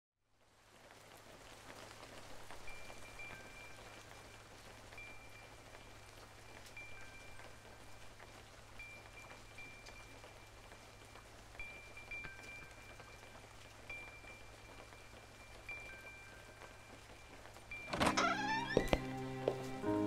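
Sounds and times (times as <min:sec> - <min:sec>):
rain falling: 0:00.2 - 0:20.0.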